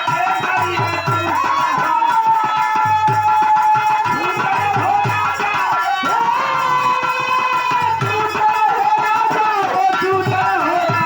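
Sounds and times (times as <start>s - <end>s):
hand drum beat: 0.0s - 11.0s
harmonium melody: 0.0s - 11.0s.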